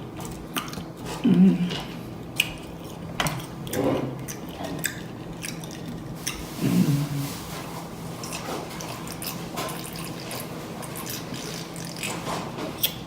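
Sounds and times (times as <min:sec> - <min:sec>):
wet chewing and lip-smacking: 0:00.2 - 0:06.5, 0:08.2 - 0:13.0.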